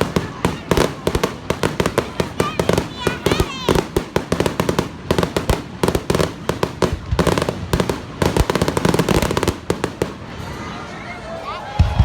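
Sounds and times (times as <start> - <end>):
fireworks bangs and pops: 0.0 - 10.6.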